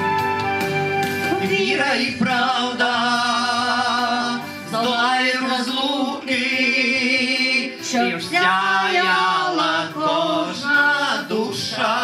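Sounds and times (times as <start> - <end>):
male vocal group singing: 1.3 - 12.0.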